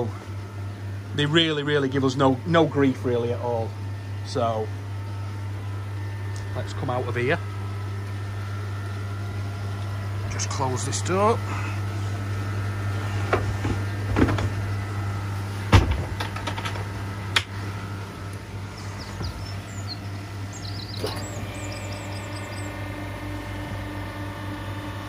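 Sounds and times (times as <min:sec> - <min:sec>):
pump low hum: 0:00.0 - 0:25.0.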